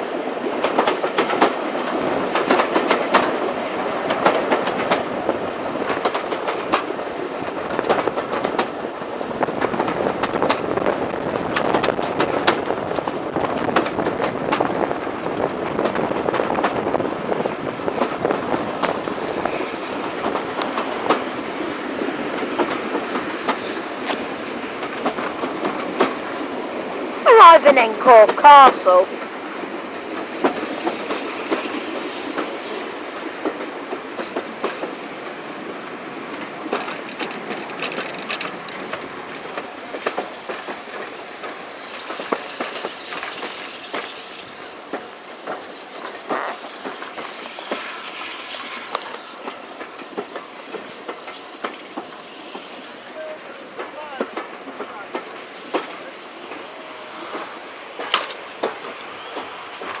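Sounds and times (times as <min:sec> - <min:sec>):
train wheels clattering over rail joints: 0:00.1 - 0:26.8, 0:29.2 - 1:00.0.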